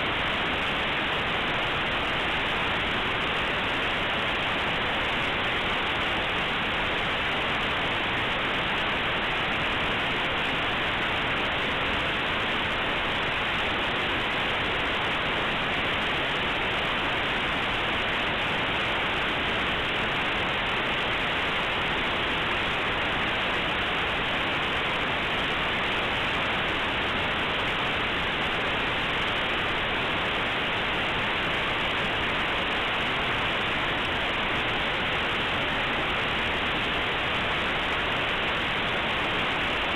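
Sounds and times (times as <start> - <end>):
steady static hiss: 0.0 - 39.9.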